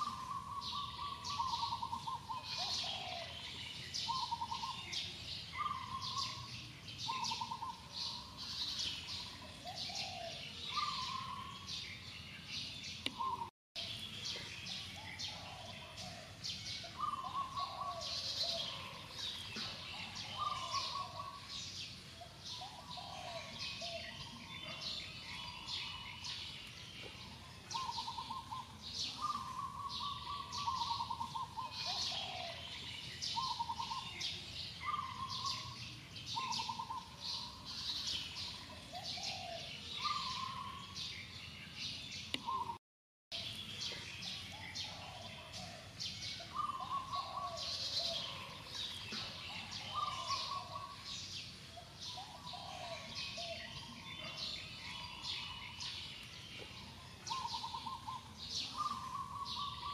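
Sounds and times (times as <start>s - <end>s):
forest birds calling: 0.0s - 59.9s.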